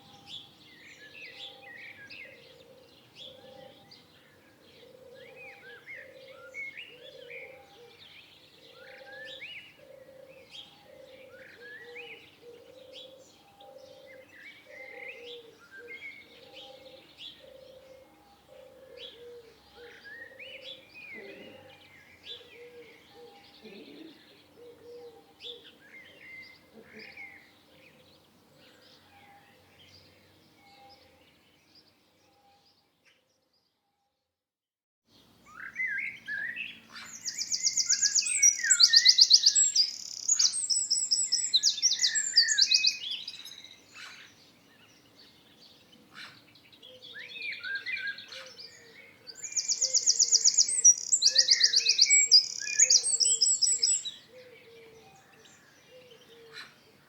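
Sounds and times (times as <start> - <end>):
songbirds chirping and trilling: 0.0 - 33.8, 35.1 - 57.0.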